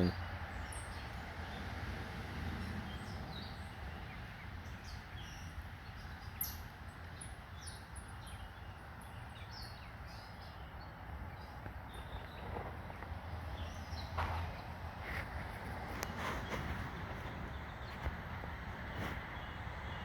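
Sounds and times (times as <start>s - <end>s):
low outdoor hum: 0.0s - 20.0s
songbirds chirping: 0.0s - 20.0s.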